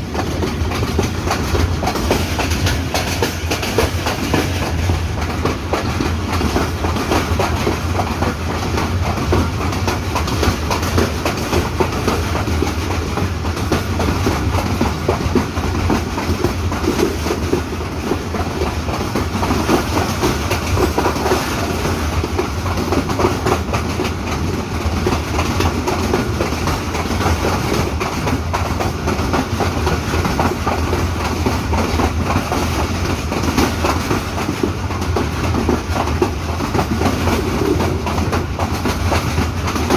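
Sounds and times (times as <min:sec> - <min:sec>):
train rumbling: 0:00.0 - 0:39.9
wheels clattering over rail joints: 0:00.0 - 0:39.9.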